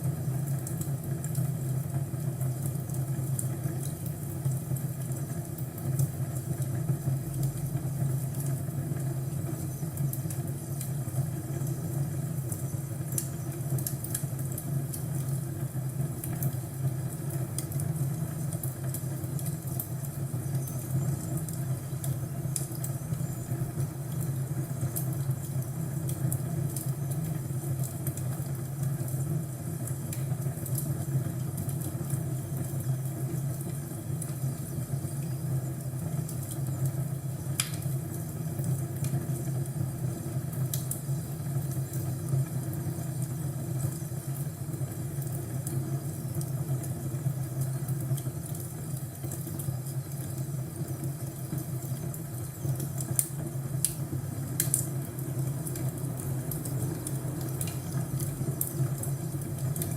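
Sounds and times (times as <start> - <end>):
wood fire popping and crackling: 0.0 - 59.9
fire rumbling: 0.1 - 59.9.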